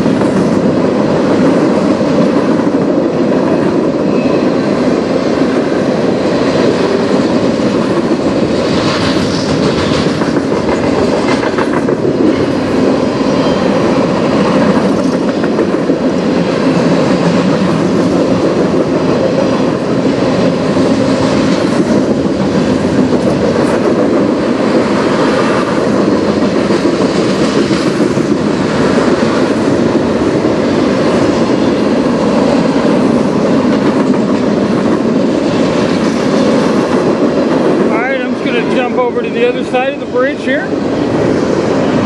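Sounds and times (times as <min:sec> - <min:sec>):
freight train wheels rumbling: 0:00.0 - 0:42.0.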